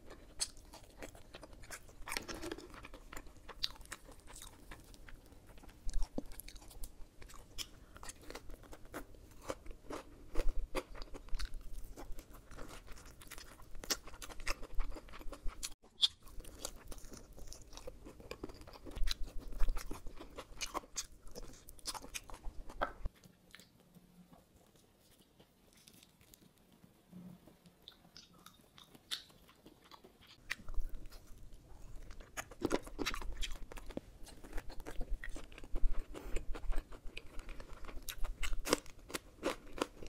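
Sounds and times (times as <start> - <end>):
person chewing ribs: 0.0 - 26.8, 27.5 - 40.0.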